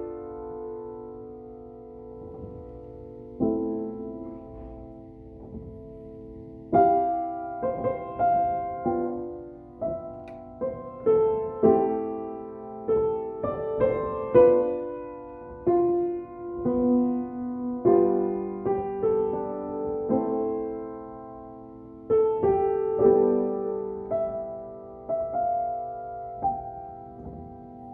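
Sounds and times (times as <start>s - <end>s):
solo piano playing slow chords: 0.0s - 27.9s.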